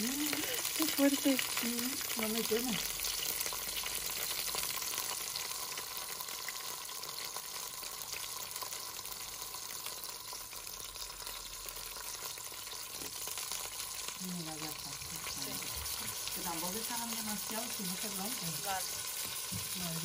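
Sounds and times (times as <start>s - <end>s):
zucchini sizzling in hot oil: 0.0s - 20.0s.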